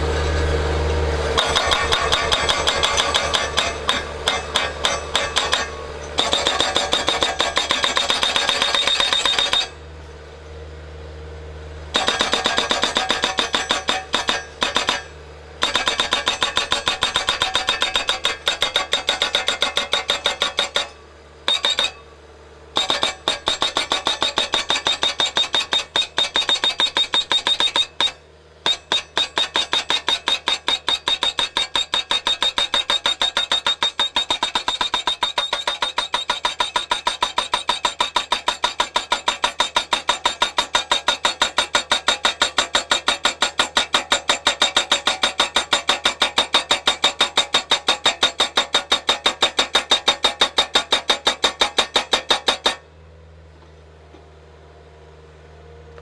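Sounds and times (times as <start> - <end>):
skid steer engine running: 0.0 - 56.0
post driver metallic blows: 1.2 - 9.8, 11.9 - 52.8.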